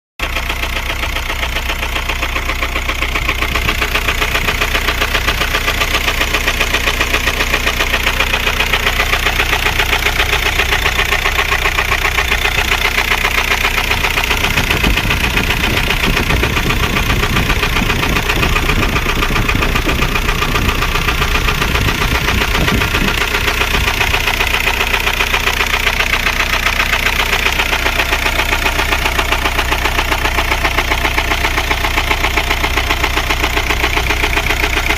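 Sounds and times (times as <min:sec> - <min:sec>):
diesel engine knocking: 0:00.2 - 0:34.9.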